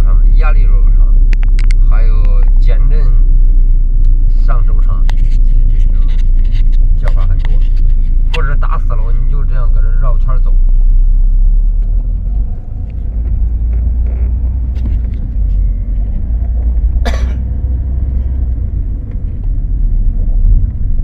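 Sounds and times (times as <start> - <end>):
car rumble: 0.0 - 21.0.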